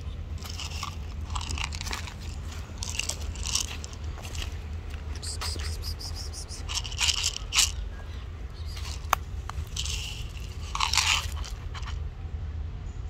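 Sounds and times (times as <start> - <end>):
crunching of dry leaf litter: 0.0 - 12.0
low background rumble: 0.0 - 13.0.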